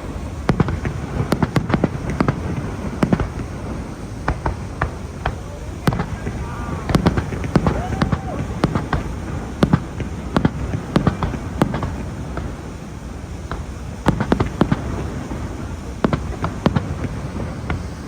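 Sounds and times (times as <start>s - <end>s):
fireworks bangs and pops: 0.0s - 18.0s
low background noise: 0.0s - 18.0s.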